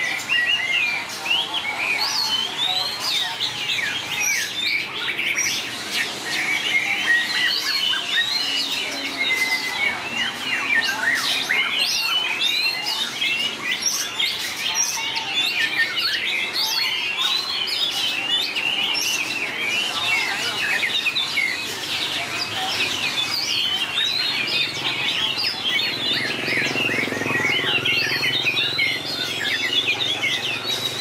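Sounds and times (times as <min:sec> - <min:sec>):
bird singing whistles and chatter: 0:00.0 - 0:31.0.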